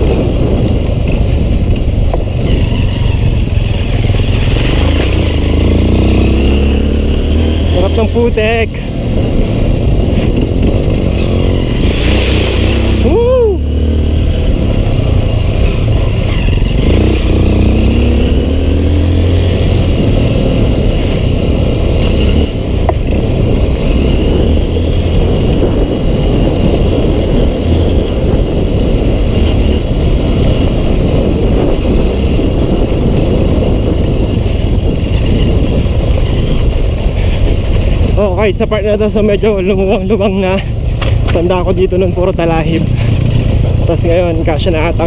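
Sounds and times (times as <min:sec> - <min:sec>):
dirt bike engine rumbling: 0:00.0 - 0:45.0.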